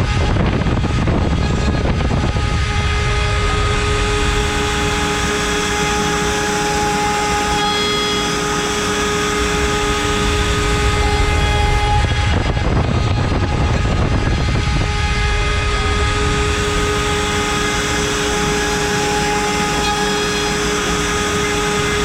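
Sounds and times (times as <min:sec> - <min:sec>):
router spindle high whine: 0:00.0 - 0:22.0
router cutting wood: 0:00.1 - 0:22.0.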